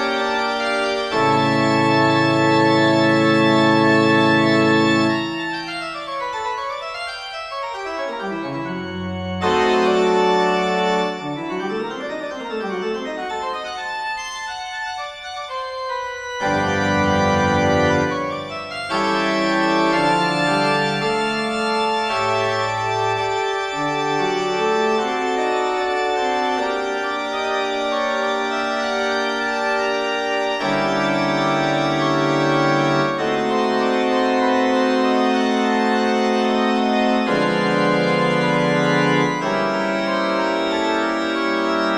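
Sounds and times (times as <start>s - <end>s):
organ playing slow chords: 0.0s - 41.9s.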